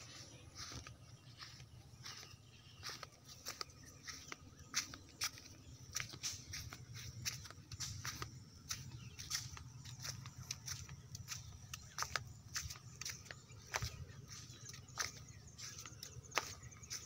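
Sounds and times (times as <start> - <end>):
footsteps on dirt path: 0.0 - 17.0
steady low rumble: 0.0 - 17.0.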